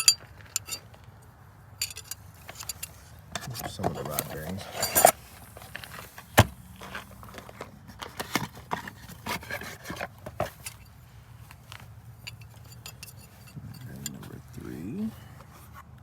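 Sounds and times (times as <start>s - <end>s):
metal parts and tools clinking: 0.0s - 1.2s, 1.8s - 6.2s, 6.8s - 14.9s.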